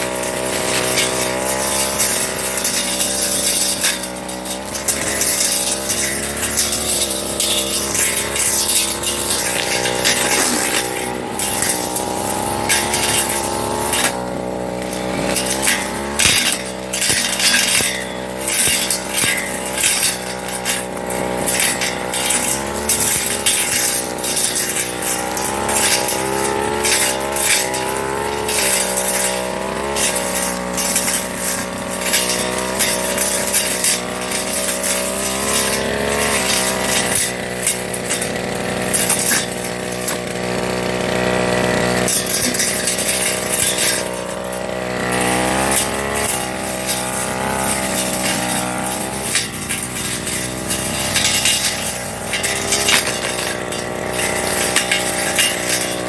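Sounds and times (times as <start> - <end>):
blade crackling through grass: 0.0 - 56.0
brush cutter engine revving: 0.0 - 56.0.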